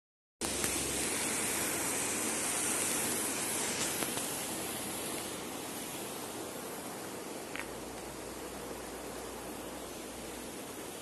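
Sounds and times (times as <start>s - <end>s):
water rushing over rocks: 0.4s - 11.0s.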